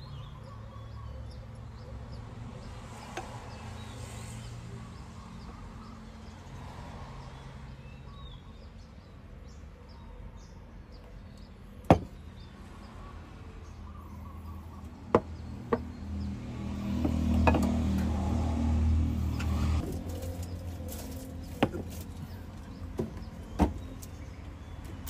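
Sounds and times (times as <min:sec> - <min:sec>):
passing vehicle rumble: 0:00.0 - 0:09.6, 0:12.4 - 0:25.0.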